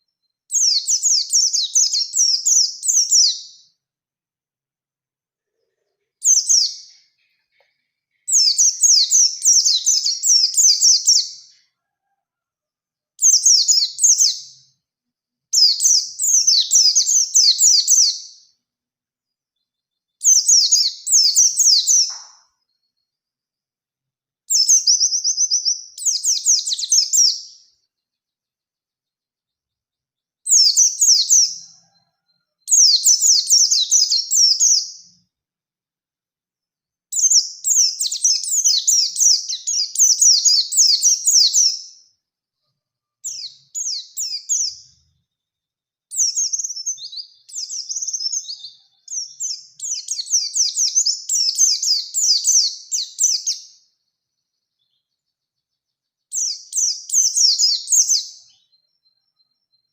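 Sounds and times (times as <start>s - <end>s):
bird twittering song: 0.0s - 3.7s, 5.9s - 12.2s, 13.2s - 14.8s, 15.5s - 18.5s, 19.5s - 23.4s, 24.5s - 28.4s, 30.2s - 35.2s, 37.1s - 42.0s, 43.2s - 59.9s.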